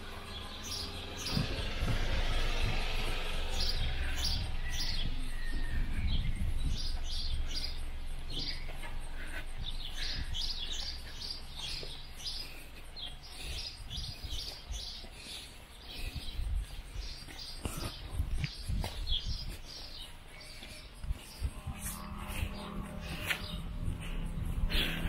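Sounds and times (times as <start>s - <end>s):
songbirds chirping: 0.0s - 25.0s
steady low rumble: 0.0s - 25.0s.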